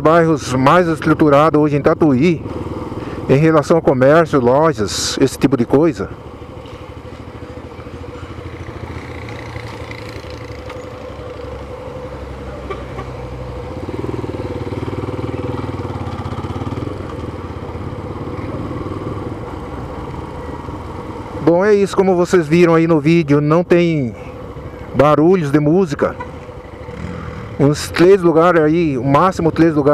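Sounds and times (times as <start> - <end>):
motorcycle engine running: 0.3 - 29.9.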